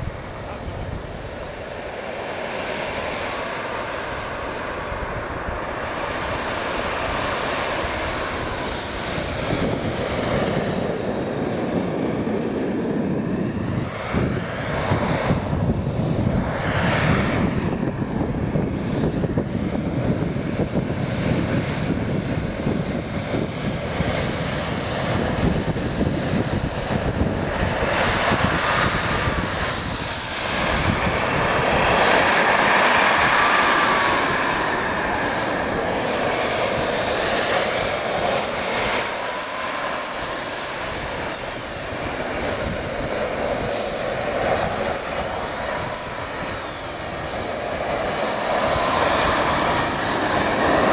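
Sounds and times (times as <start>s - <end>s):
model jet engine whining: 0.0s - 50.9s
steady rushing noise: 0.0s - 50.9s.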